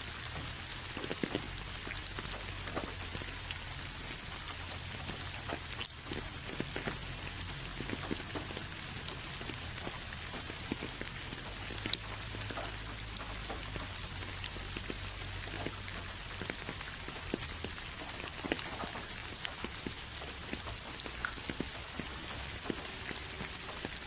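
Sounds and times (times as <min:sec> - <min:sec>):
rain hiss: 0:00.0 - 0:24.0
raindrops ticking on a surface: 0:00.0 - 0:24.0.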